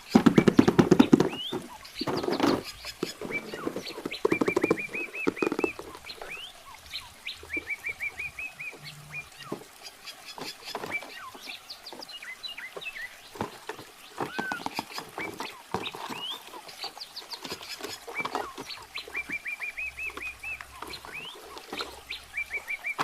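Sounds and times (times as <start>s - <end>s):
birds chirping: 0.0s - 23.0s
handling clicks and rustling: 0.0s - 23.0s.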